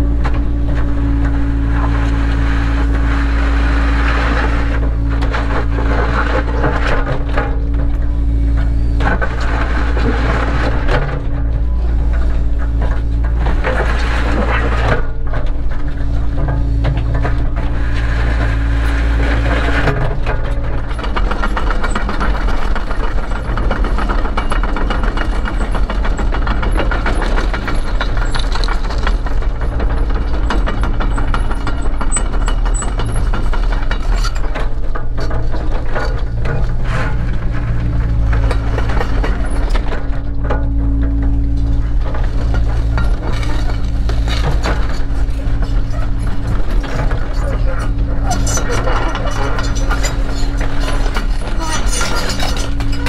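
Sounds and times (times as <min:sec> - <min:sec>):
excavator diesel engine running: 0:00.0 - 0:53.0
machine rattles and knocks: 0:03.9 - 0:53.0.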